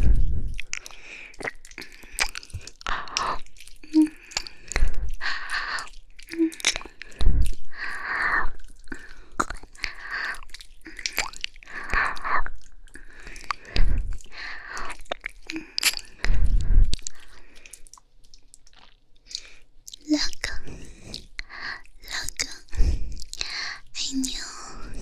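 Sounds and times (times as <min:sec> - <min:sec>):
soft airy breaths: 0:00.0 - 0:18.0, 0:19.2 - 0:25.0
wet licking and kissing: 0:00.0 - 0:24.4
moist mouth clicks and smacks: 0:00.0 - 0:25.0.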